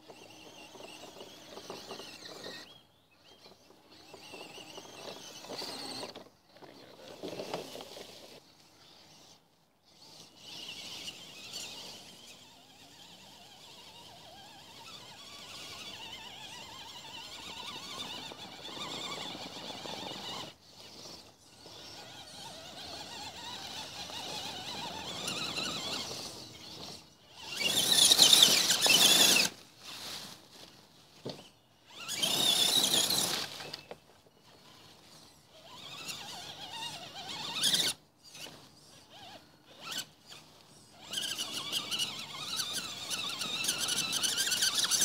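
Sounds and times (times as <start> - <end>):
toy truck motors whining: 0.0 - 45.0
tyres churning dirt: 0.0 - 45.0.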